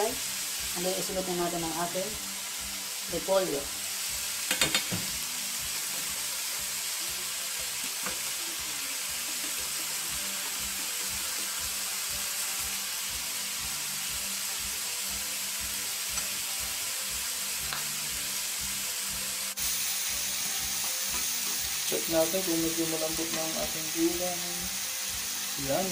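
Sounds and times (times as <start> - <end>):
vegetables sizzling in a frying pan: 0.0 - 25.9
spatula turning vegetables: 0.2 - 25.9.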